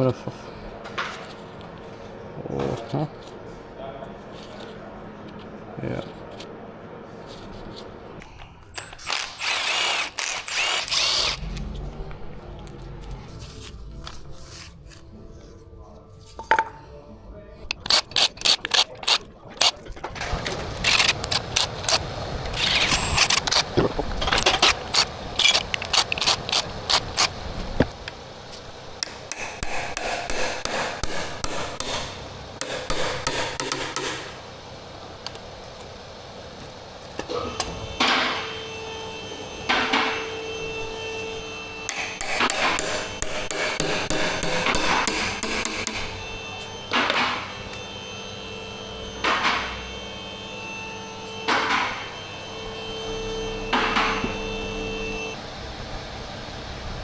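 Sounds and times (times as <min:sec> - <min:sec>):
power tool whine: 0:06.0 - 0:15.0, 0:17.7 - 0:57.0.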